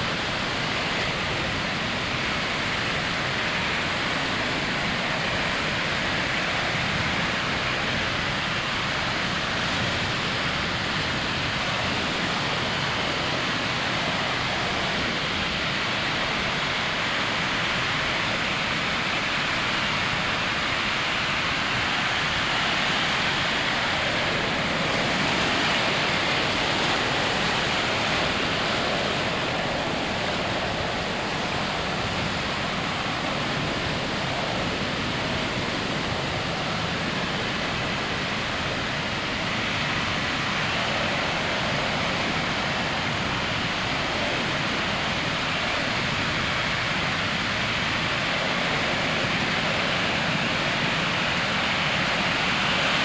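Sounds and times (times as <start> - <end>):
ocean waves breaking on beach: 0.0 - 53.0.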